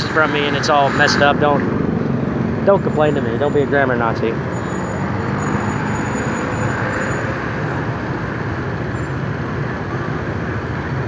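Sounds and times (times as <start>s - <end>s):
motorbike engines: 0.0s - 11.0s
truck passing: 0.0s - 11.0s.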